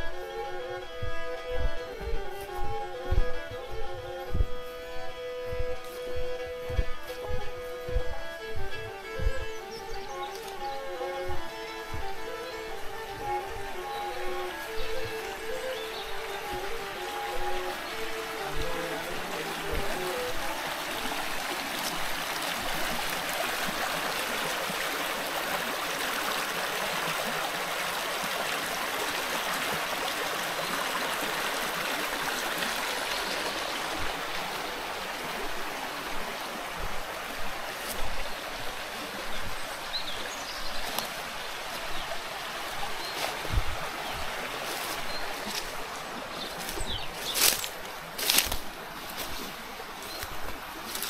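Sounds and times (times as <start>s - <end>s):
stream gurgling over stones: 0.0s - 4.2s, 9.9s - 51.0s.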